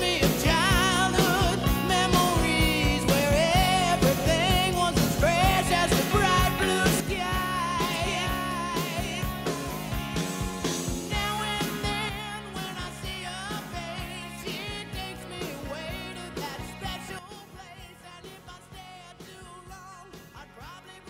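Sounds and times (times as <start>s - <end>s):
song with sung vocals and drums: 0.0s - 21.0s.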